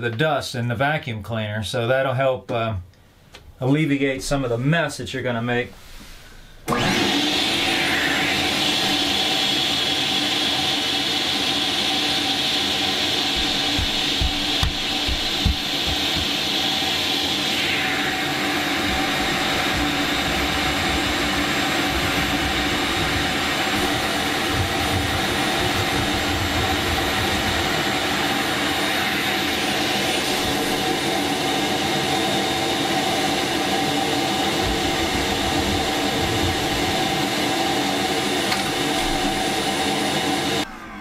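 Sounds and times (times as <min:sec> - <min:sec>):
vacuum cleaner running: 0:06.6 - 0:41.0.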